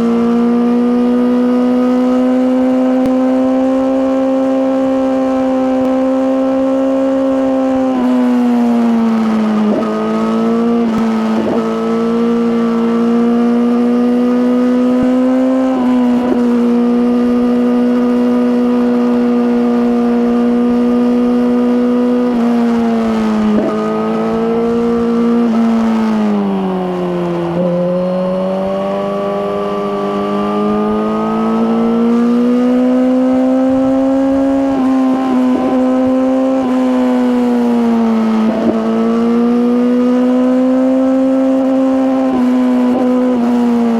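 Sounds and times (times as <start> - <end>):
motorcycle engine at high revs: 0.0 - 43.9.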